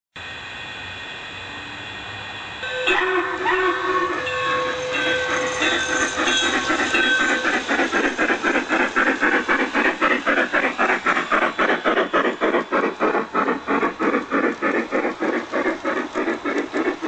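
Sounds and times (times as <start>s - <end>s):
model steam locomotive chuffing: 0.2s - 17.0s.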